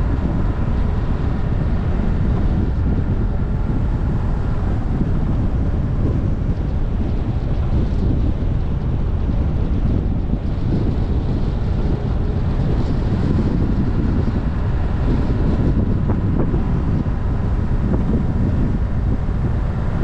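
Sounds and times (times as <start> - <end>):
car road and engine noise: 0.0 - 20.0
wind buffeting microphone: 0.0 - 20.0.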